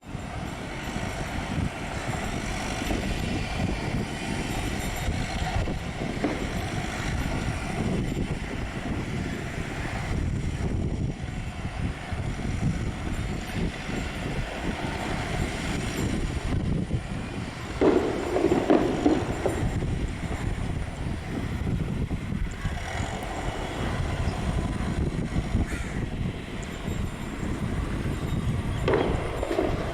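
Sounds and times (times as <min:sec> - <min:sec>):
jet engines deep rumble: 0:00.0 - 0:29.9.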